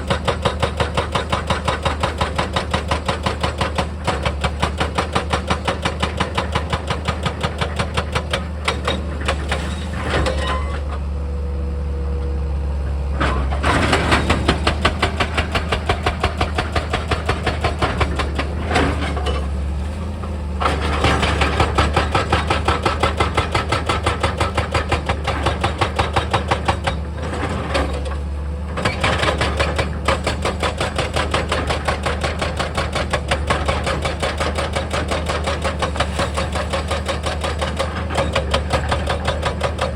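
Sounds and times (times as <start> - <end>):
hydraulic hammer pounding rock: 0.0 - 10.7, 13.2 - 39.9.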